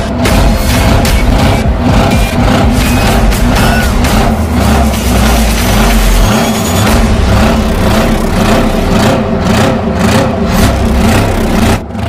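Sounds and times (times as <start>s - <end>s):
heavy engine revving: 0.0s - 12.0s.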